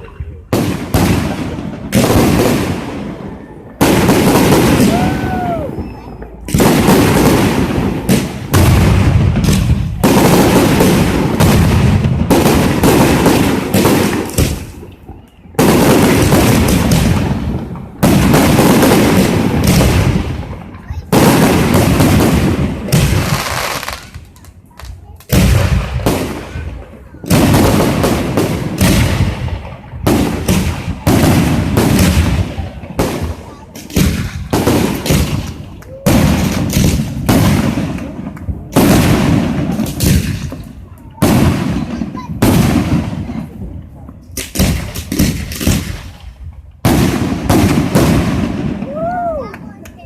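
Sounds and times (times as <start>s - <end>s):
fireworks bangs: 0.0s - 50.0s
fireworks crackle: 0.0s - 50.0s.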